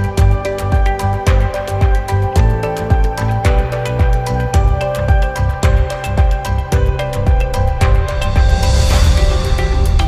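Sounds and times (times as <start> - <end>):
held chords: 0.0 - 10.0
music with steady beat: 0.0 - 10.0.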